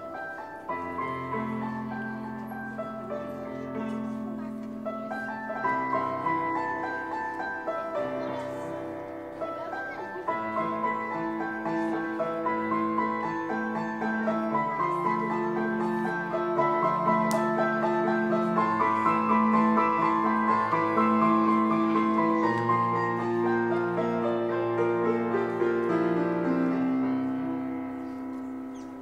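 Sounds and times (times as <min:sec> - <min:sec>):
piano-like keyboard melody: 0:00.0 - 0:29.0.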